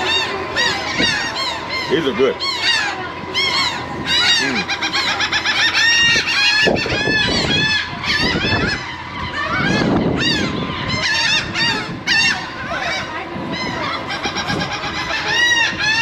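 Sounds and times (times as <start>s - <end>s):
seagulls calling: 0.0s - 16.0s.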